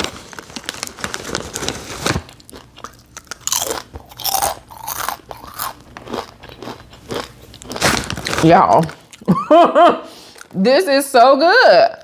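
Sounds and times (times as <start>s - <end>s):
person chewing crunchy chips: 0.0s - 9.4s, 10.2s - 10.6s.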